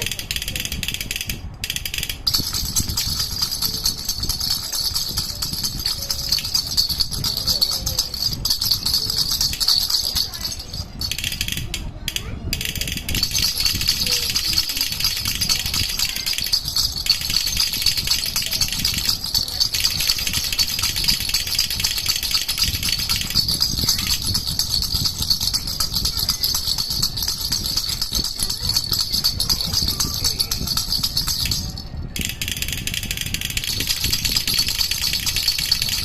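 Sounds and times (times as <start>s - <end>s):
baby rattle shaken: 0.0s - 36.0s.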